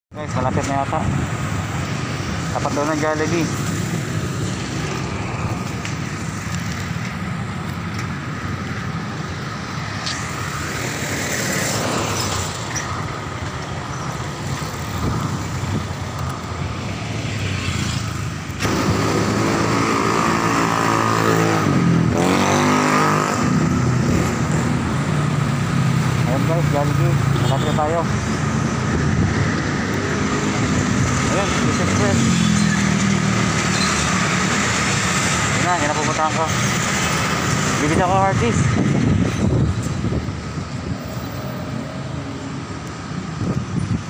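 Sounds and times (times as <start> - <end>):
road traffic passing: 0.1 - 44.0.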